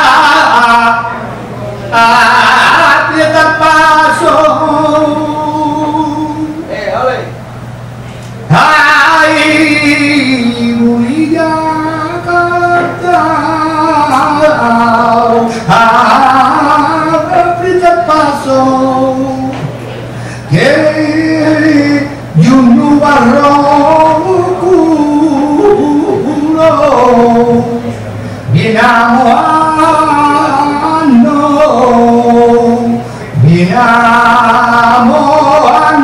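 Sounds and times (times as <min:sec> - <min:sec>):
man singing flamenco: 0:00.0 - 0:01.2, 0:01.9 - 0:06.7, 0:08.5 - 0:19.7, 0:20.5 - 0:36.0.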